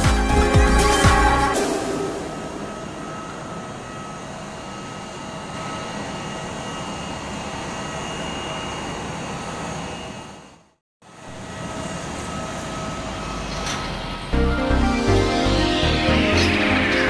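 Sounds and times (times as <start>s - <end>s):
high whining tones: 0.0s - 17.0s
jet engines running: 0.2s - 17.0s.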